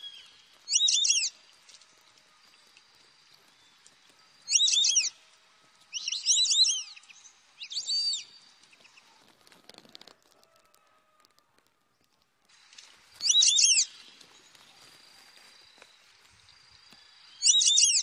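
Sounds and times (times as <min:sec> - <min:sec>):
faint rustle: 0:00.0 - 0:06.0, 0:08.1 - 0:17.3
songbird singing: 0:00.0 - 0:09.3, 0:12.7 - 0:18.0.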